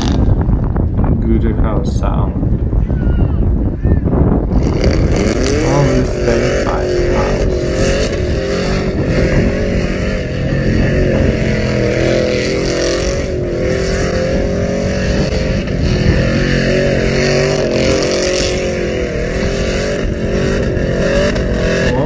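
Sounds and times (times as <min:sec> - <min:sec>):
truck engine droning: 0:04.2 - 0:22.0.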